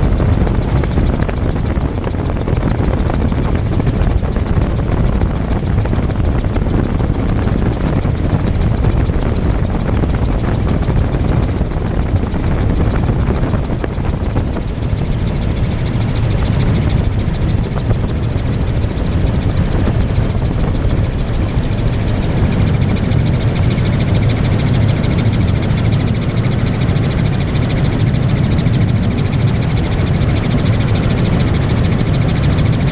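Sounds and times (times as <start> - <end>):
helicopter rotor and engine: 0.0 - 32.9.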